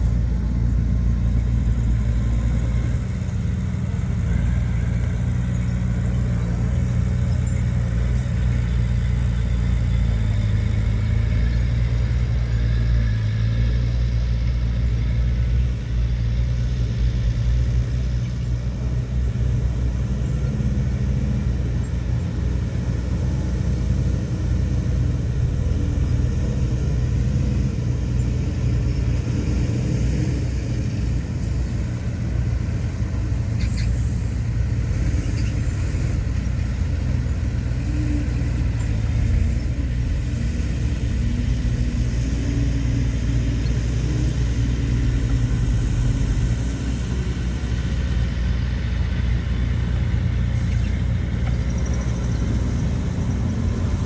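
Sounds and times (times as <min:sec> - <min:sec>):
heavy machinery diesel engine rumble: 0:00.0 - 0:54.0.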